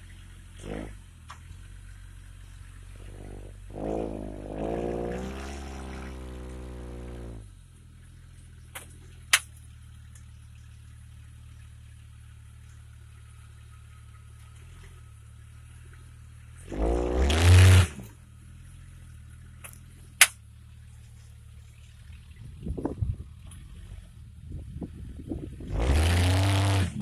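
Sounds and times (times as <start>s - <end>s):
suv engine idling and revving: 0.0s - 27.0s.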